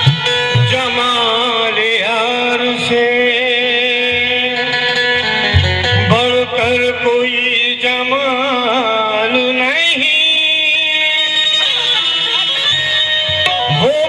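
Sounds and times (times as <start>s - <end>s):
harmonium holding a chord: 0.0s - 14.0s.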